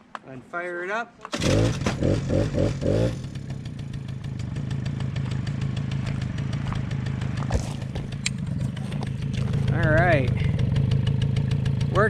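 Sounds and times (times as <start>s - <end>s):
small two-stroke engine idling: 1.4s - 12.0s.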